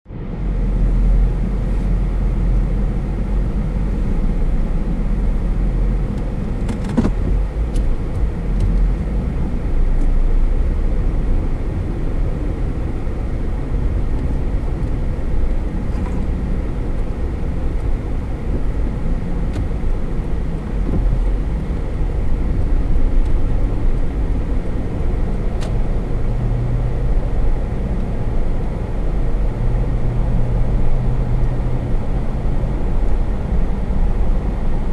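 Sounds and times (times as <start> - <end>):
car tyres rumbling on road: 0.1 - 34.9.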